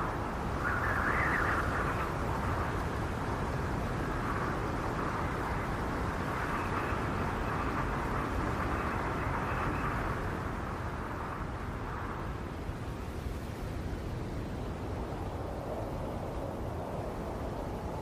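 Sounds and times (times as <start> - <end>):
snowstorm wind howling: 0.0 - 18.0.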